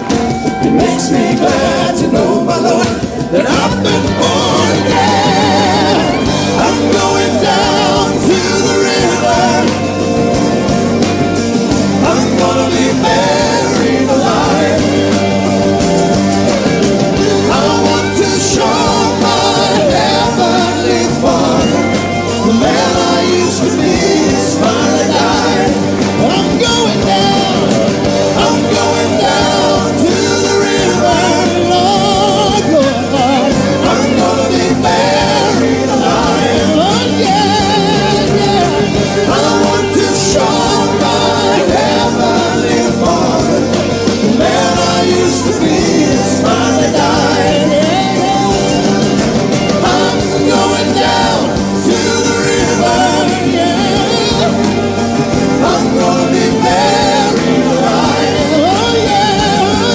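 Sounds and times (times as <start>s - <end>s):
band backing music: 0.0s - 59.9s
person singing gospel song: 0.0s - 59.9s.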